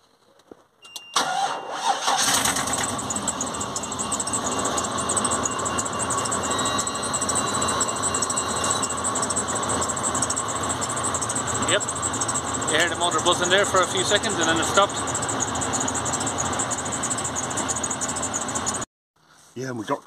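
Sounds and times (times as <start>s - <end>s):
engine starting and idling: 1.2s - 18.9s.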